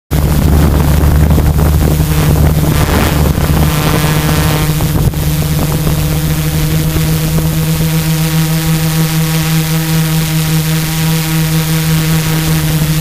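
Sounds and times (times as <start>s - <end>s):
drone propellers humming: 0.1s - 13.0s
wind rushing over microphone: 0.1s - 13.0s.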